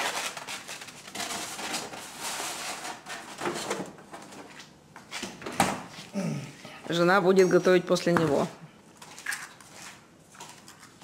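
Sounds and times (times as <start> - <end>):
kitchen rustling and clatter: 0.0 - 6.1, 8.3 - 11.0.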